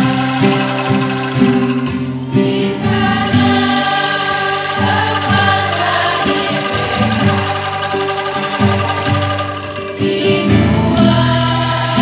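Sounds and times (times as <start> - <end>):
angklung quivering notes: 0.0 - 12.0
women's choir singing: 0.0 - 12.0.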